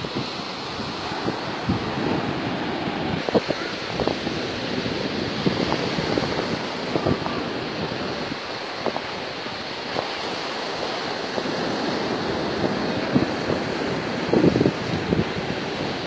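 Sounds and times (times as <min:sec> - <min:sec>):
sea surf washing on beach: 0:00.0 - 0:16.0
wind buffeting microphone: 0:00.0 - 0:16.0.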